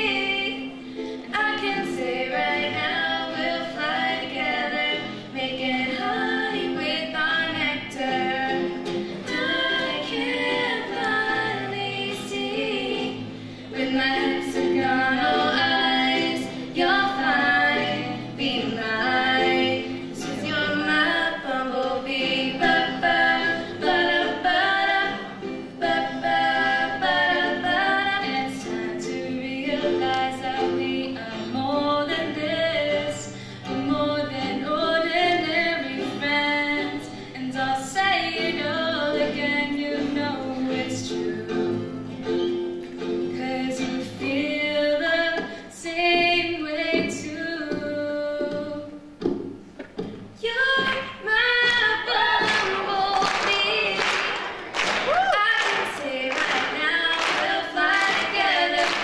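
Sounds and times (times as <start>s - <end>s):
women singing together: 0.0s - 41.8s, 43.3s - 49.3s, 50.4s - 59.0s
strummed acoustic guitar: 0.0s - 54.7s
ukulele: 0.0s - 59.0s.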